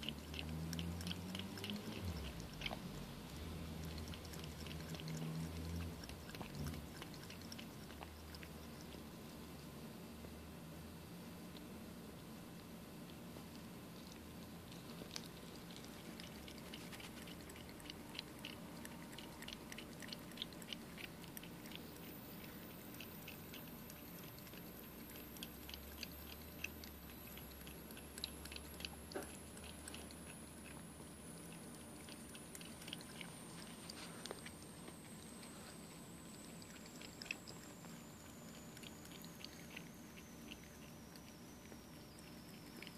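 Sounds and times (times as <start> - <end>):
cat lapping water: 0.0 - 9.4, 13.7 - 35.4, 36.4 - 42.9.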